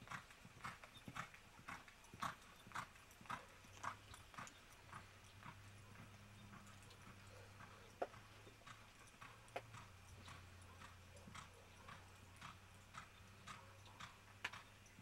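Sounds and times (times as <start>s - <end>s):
horse hoofbeats on dirt: 0.0s - 15.0s.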